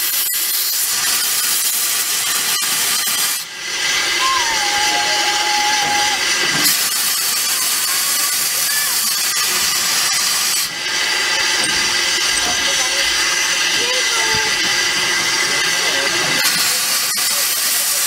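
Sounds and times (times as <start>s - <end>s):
steam locomotive hissing steam: 0.0s - 18.0s.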